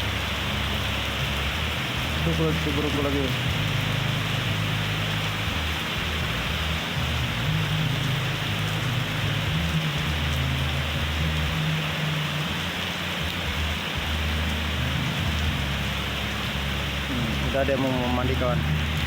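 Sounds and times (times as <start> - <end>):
low rumble: 0.0 - 19.0
rain pattering on surfaces: 0.0 - 19.0.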